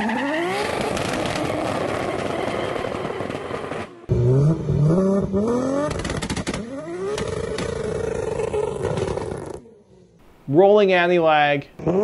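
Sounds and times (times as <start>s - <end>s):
car engine at full throttle: 0.0s - 10.2s
engine revving in rising sweeps: 0.0s - 10.2s.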